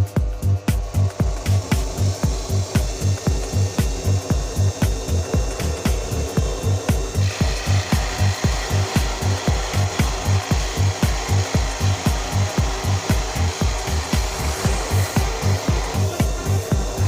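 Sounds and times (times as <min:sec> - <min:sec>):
scroll saw cutting wood: 0:00.0 - 0:17.0.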